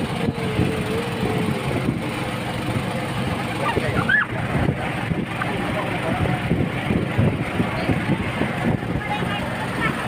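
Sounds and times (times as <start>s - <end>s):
wind on microphone: 0.0s - 2.9s, 3.7s - 10.0s
boat motor rumbling: 0.0s - 10.0s.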